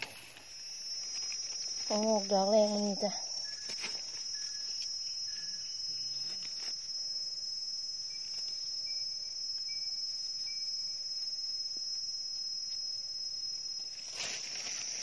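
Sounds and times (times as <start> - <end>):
high-pitched insect shrill: 0.0 - 15.0.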